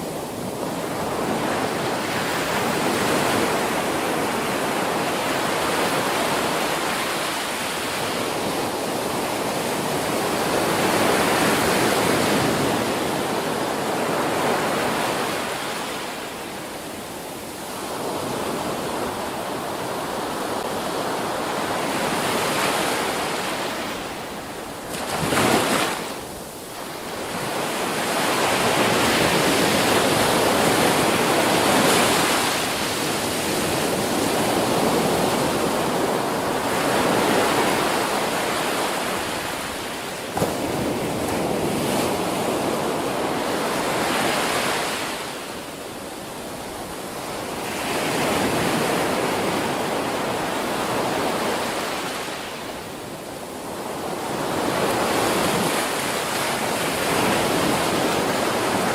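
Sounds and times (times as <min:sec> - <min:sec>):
ocean surf crashing: 0:00.0 - 0:58.9.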